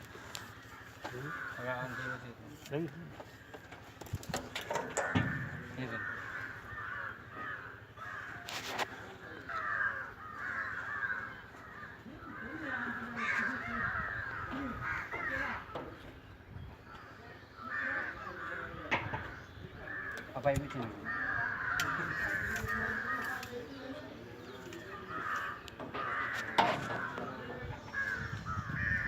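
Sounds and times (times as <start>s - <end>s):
crows cawing: 0.0s - 29.0s.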